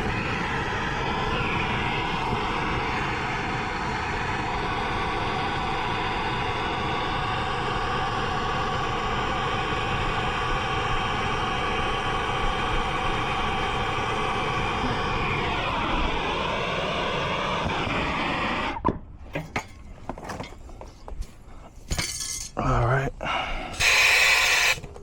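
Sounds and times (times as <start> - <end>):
torch flame roaring hiss: 0.0 - 18.8, 23.2 - 25.0.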